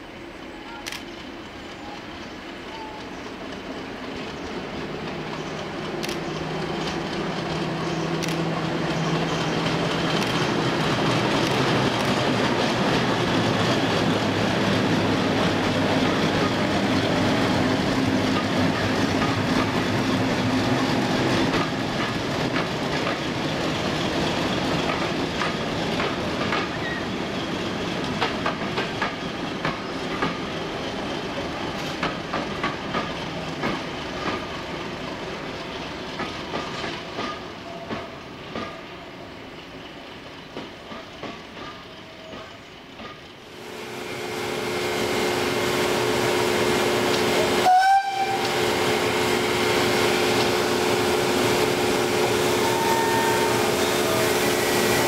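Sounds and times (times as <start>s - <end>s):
diesel locomotive engine running: 0.0s - 36.2s, 43.4s - 55.0s
train wheels clicking over rails: 0.8s - 52.6s.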